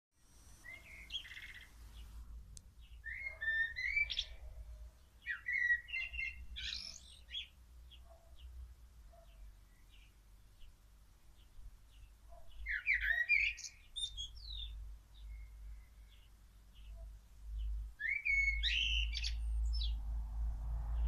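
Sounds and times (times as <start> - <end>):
blackbird singing fluty phrases: 0.3 - 2.2, 2.8 - 20.0.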